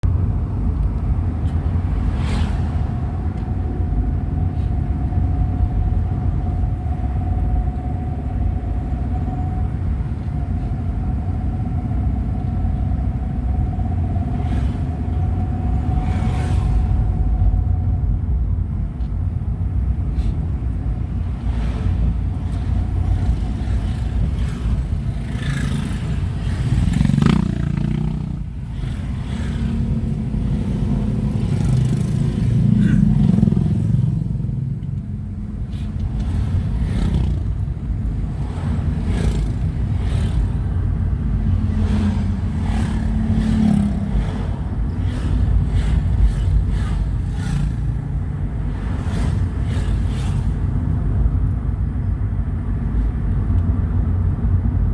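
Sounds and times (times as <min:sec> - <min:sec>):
vehicle engine rumbling: 0:00.0 - 0:54.9.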